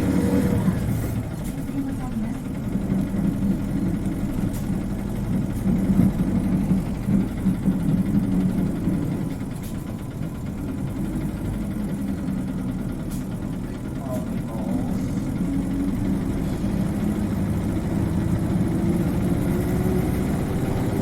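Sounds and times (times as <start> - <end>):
bus engine humming: 0.0 - 21.0.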